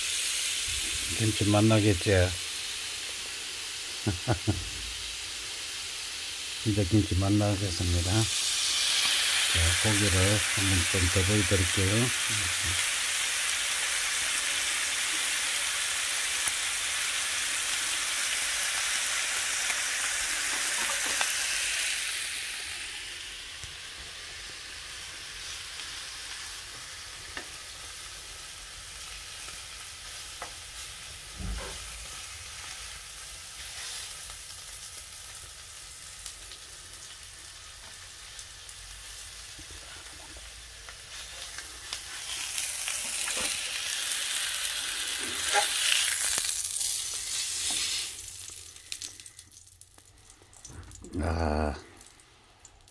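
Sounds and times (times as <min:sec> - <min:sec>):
meat sizzling in a frying pan: 0:00.0 - 0:51.8.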